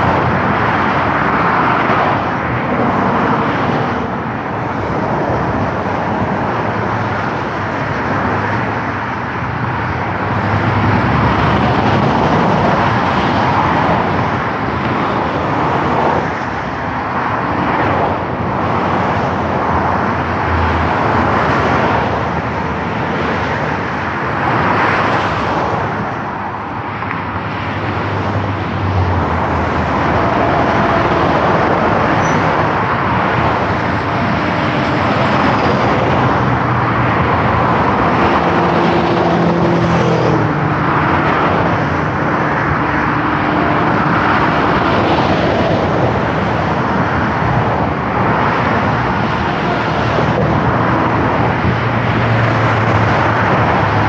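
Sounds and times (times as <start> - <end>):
motorway traffic rushing: 0.0 - 54.0.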